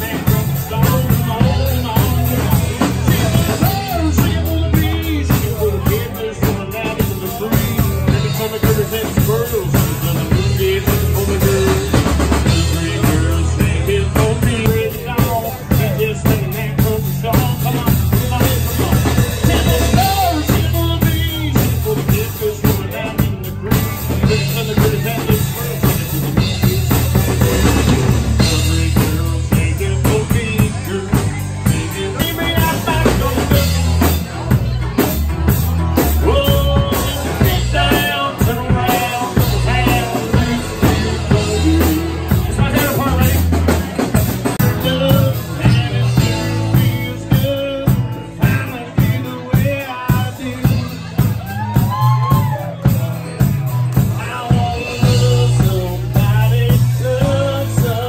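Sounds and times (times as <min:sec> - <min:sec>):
acoustic guitar: 0:00.0 - 0:58.0
drum kit: 0:00.0 - 0:58.0
person singing: 0:00.0 - 0:58.0.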